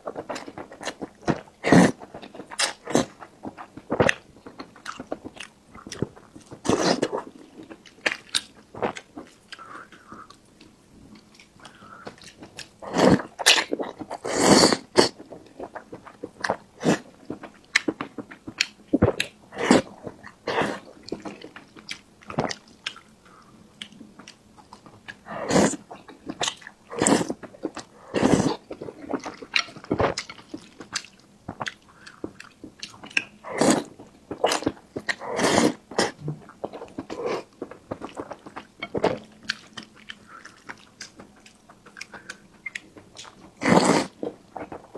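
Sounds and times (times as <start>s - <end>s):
person chewing and smacking: 0.0s - 44.9s.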